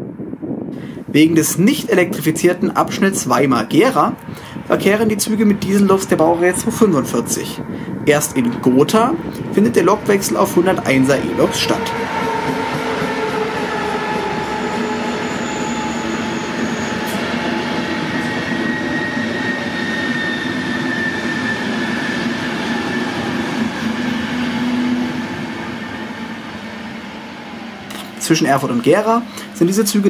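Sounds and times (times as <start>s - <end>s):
diesel locomotive engine: 0.0s - 30.0s
train coaches rumbling on rails: 0.1s - 30.0s.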